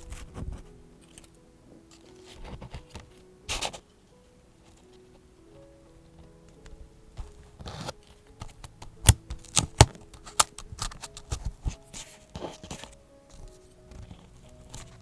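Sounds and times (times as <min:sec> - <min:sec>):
paper rustling and crinkling: 0:00.0 - 0:03.9, 0:06.6 - 0:15.0.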